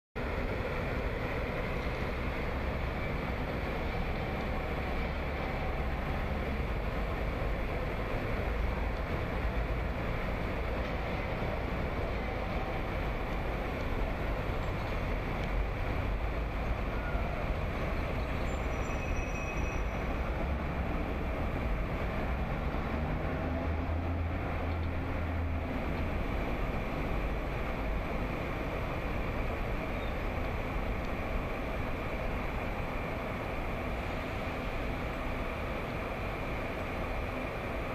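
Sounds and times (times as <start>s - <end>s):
street traffic: 0.2s - 37.9s.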